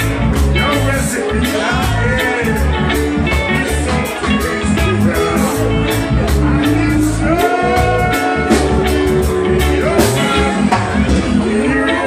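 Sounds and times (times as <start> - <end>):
live band playing: 0.0 - 12.0
man singing: 0.0 - 12.0.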